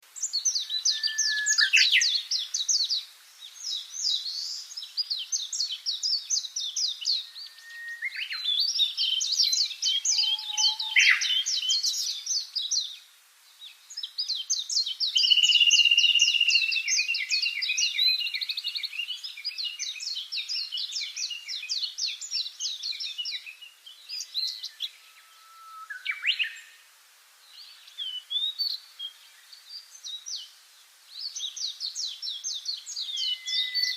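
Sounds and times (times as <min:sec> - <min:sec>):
birds singing rapid chirps: 0:00.0 - 0:33.9.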